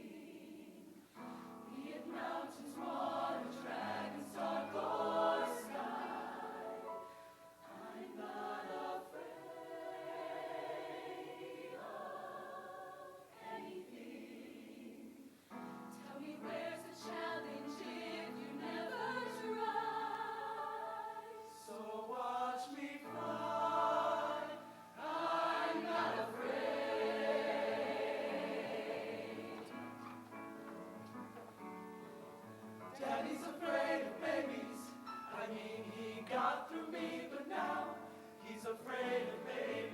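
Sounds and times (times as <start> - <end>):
choir singing in harmony: 0.0 - 30.6, 31.6 - 39.9.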